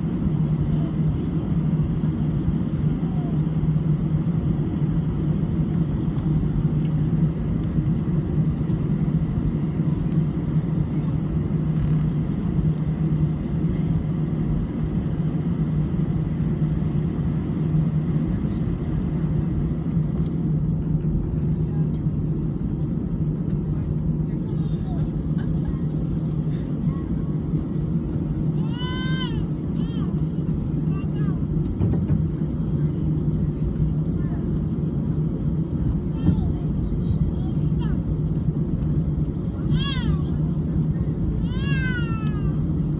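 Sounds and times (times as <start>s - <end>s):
jet engines droning: 0.0s - 42.9s.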